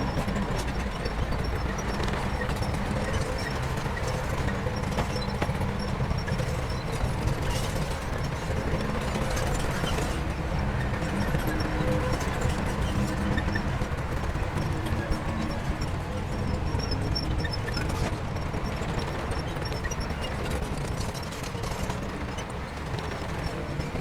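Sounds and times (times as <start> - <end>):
diesel machinery engine rumble: 0.0 - 24.0.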